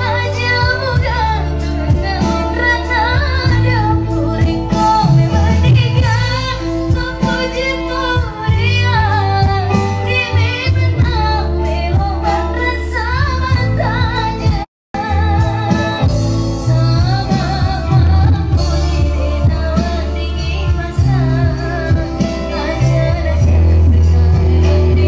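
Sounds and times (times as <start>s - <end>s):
live band with electric guitars: 0.0s - 25.0s
woman singing pop song: 0.0s - 25.0s.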